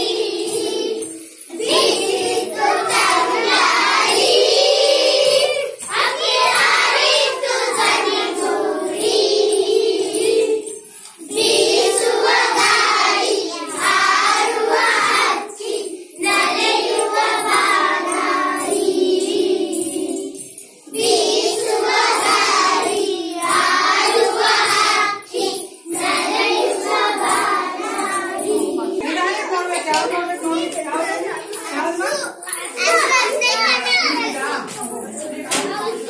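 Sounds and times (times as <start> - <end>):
children singing together: 0.0 - 29.0.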